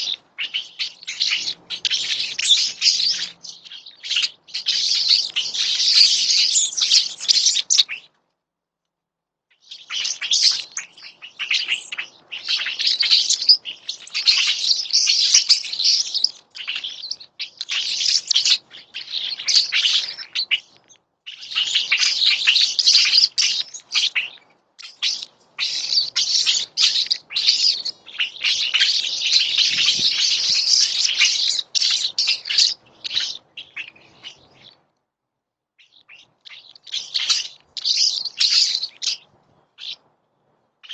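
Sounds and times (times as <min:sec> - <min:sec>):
small birds chirping: 0:00.0 - 0:08.3, 0:09.5 - 0:35.0, 0:35.8 - 0:40.9.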